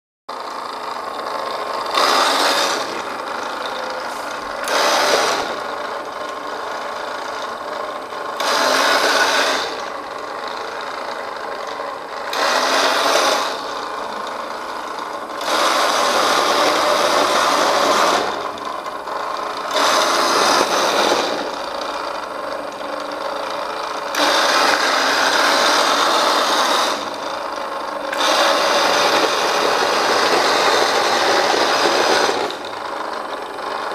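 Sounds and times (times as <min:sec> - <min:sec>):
toy car motor whirring: 0:00.3 - 0:33.9.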